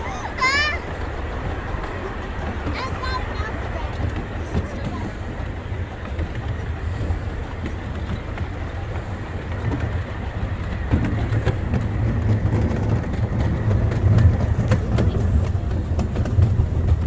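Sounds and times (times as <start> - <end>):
clicks over rail joints: 0.0 - 17.0
train wheels rumbling on track: 0.0 - 17.0.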